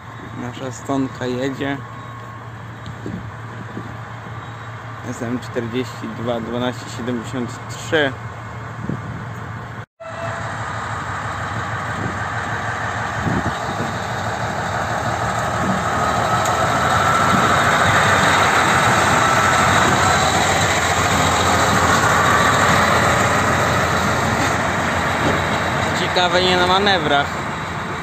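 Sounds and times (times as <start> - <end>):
diesel locomotive engine: 0.0 - 28.0
train wheels on rails: 0.0 - 28.0.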